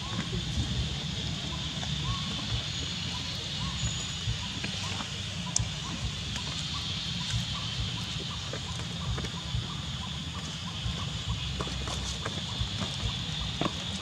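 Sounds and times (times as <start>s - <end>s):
steady high hiss: 0.0s - 14.0s
short chirp-like calls: 1.4s - 14.0s.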